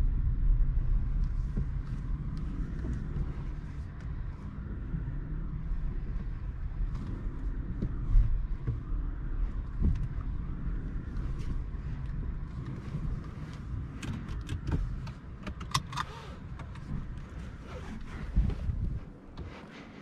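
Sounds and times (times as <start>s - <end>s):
tyre and road rumble: 0.0s - 20.0s.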